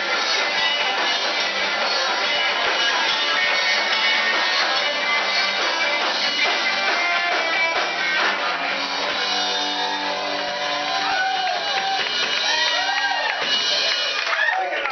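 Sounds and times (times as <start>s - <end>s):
drum kit: 0.0s - 14.9s
electric guitars: 0.0s - 14.9s.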